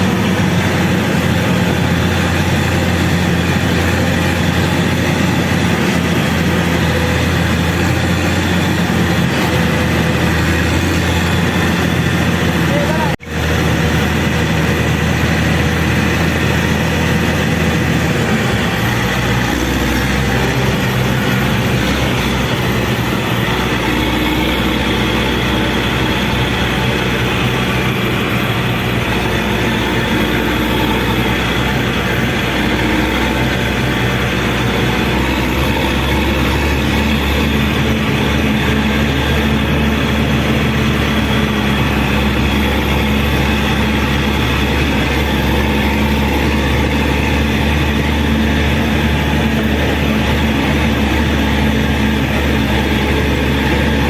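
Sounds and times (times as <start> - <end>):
motor grader diesel engine running: 0.0 - 54.0.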